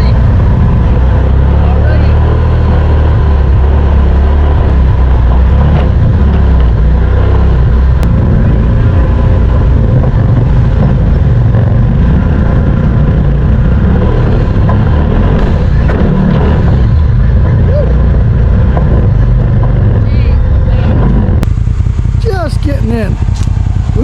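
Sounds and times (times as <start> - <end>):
off-road vehicle engine rumbling: 0.0 - 24.0.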